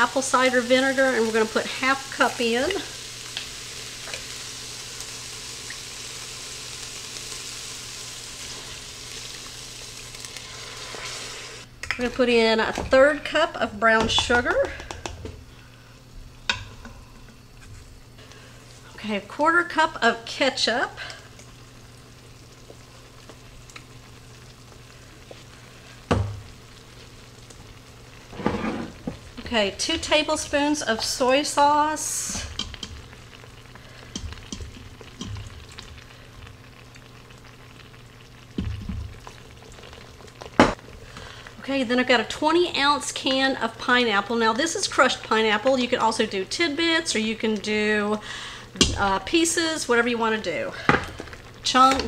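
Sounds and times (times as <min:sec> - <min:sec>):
chicken sizzling in a pot: 0:00.0 - 0:52.0.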